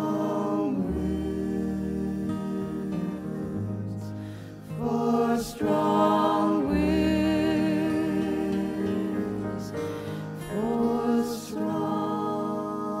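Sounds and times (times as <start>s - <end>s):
sustained accompaniment: 0.0s - 13.0s.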